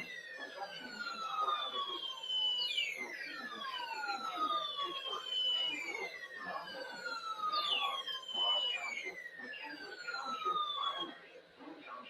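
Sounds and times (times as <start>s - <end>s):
downward gliding whistling tones: 0.0s - 11.7s
faint muffled speech: 0.0s - 12.0s.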